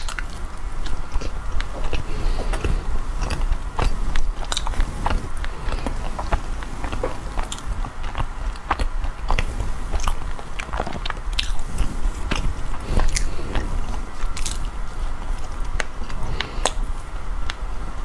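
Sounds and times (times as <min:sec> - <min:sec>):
bread being chewed: 0:00.0 - 0:18.0.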